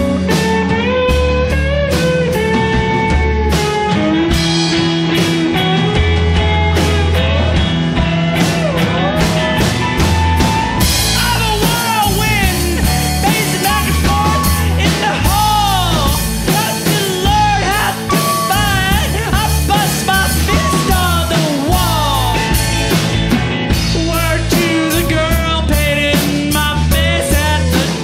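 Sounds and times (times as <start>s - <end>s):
lead guitar bending pitch: 0.0s - 25.6s
rock band playing live: 0.0s - 28.0s.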